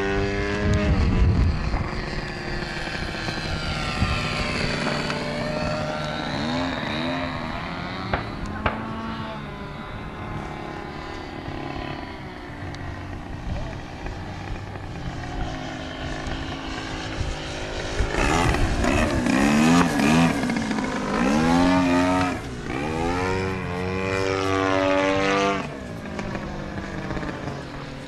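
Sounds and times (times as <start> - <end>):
wind noise on microphone: 0.0 - 27.5
model airplane engine buzzing: 0.0 - 28.0.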